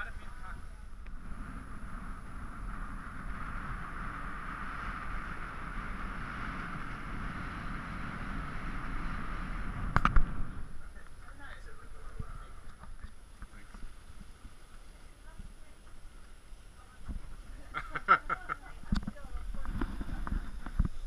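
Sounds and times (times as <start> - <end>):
water noise: 0.0 - 21.0
wind: 0.0 - 21.0.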